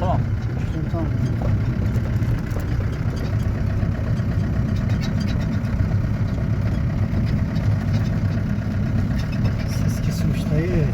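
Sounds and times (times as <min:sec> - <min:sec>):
van engine running: 0:00.0 - 0:10.9.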